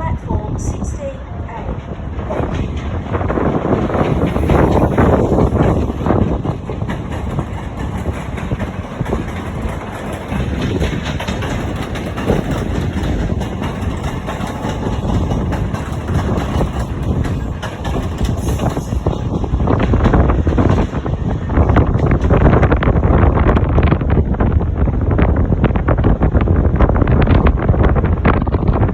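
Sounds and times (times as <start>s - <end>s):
wind gusting on microphone: 0.0s - 28.9s.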